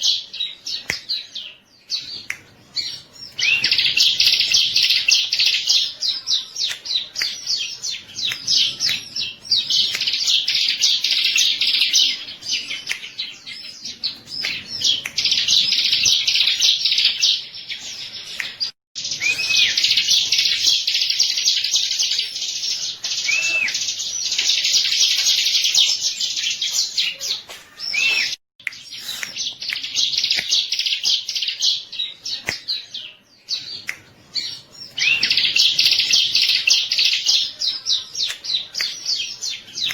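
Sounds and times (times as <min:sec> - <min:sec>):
whistled bird notes: 0:00.0 - 0:39.9.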